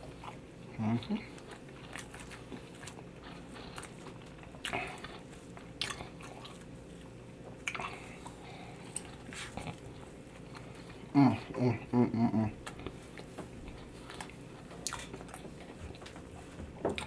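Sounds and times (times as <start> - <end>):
person chewing: 0.0 - 17.0.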